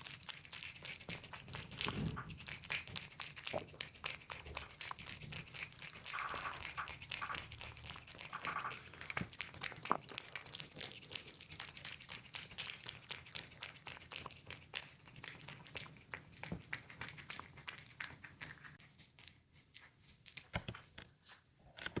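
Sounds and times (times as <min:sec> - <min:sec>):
kitten eating and chewing: 0:00.0 - 0:22.0.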